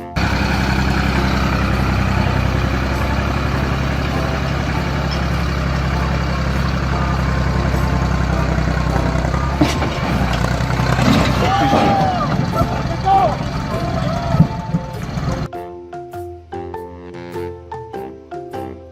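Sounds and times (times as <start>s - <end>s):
tractor engine idling: 0.0s - 15.5s.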